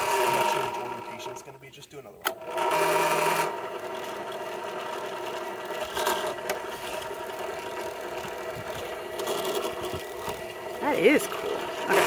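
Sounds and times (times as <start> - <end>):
drill press motor humming: 0.0 - 1.4, 2.3 - 12.0.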